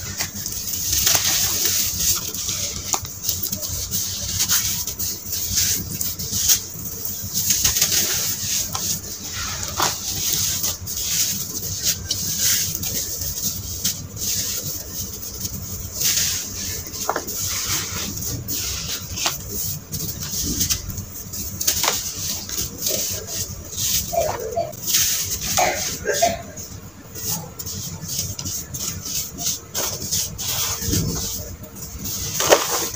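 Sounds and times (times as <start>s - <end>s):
hands kneading damp sand: 0.0s - 32.9s
small crackles: 0.0s - 32.9s.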